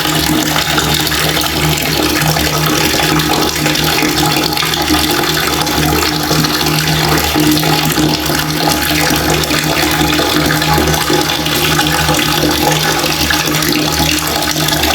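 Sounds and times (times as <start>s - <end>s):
water running from a tap: 0.0s - 14.9s.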